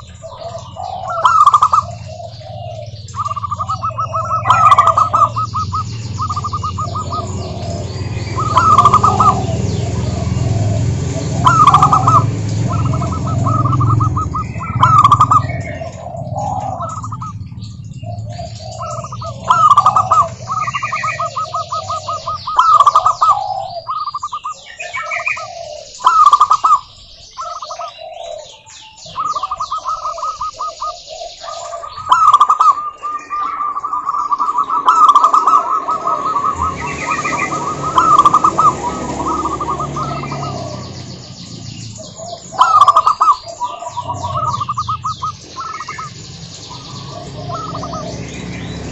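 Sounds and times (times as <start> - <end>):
doves cooing in trills: 0.0 - 48.9
small birds chirping faintly: 0.0 - 48.9.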